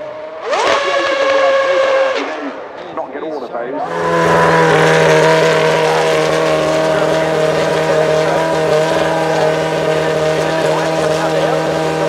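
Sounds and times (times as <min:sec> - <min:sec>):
racing car engine running steadily: 0:00.0 - 0:12.0.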